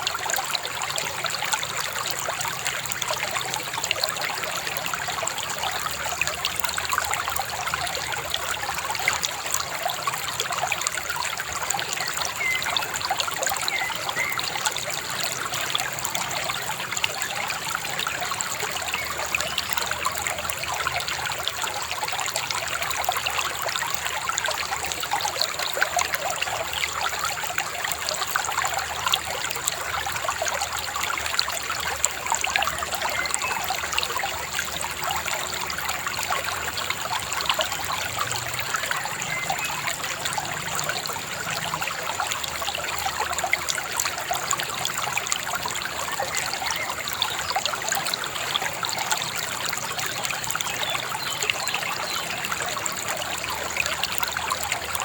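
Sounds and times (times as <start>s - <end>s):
river babbling over stones: 0.0s - 55.0s.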